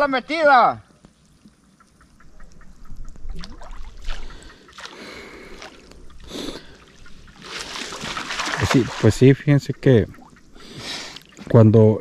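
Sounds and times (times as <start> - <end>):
water dripping: 0.8 - 12.0
water sloshing and splashing: 1.1 - 11.6.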